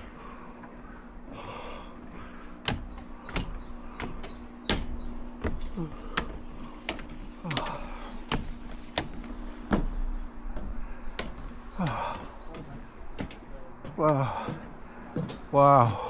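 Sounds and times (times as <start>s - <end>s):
steady low hum: 0.0s - 16.0s
footsteps knocking: 2.0s - 16.0s.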